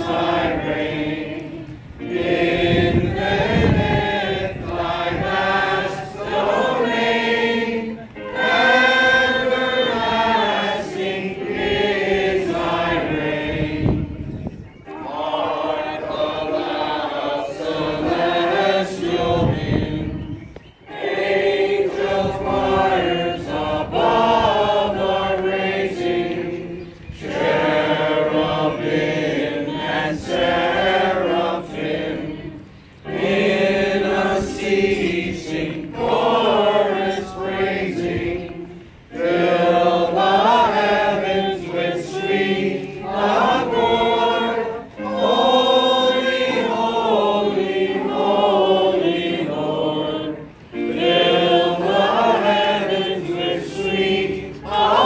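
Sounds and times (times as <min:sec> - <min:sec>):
people singing a hymn: 0:00.0 - 0:55.0.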